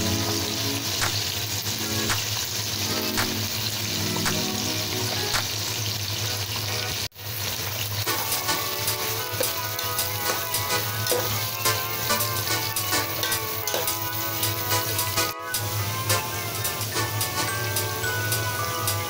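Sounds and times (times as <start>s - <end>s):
onions sizzling in hot oil: 0.0s - 19.0s.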